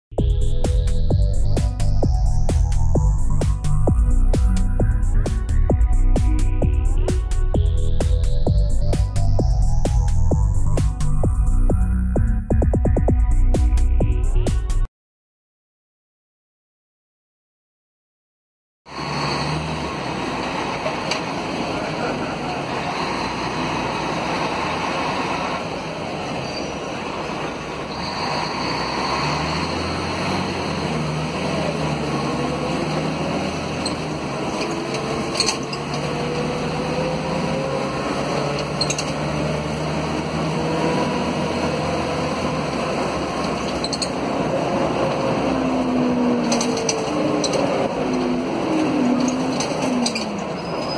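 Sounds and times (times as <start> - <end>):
bus diesel engine accelerating: 0.1 - 14.9, 18.9 - 50.9
road and cabin noise: 0.2 - 14.9, 18.9 - 50.9.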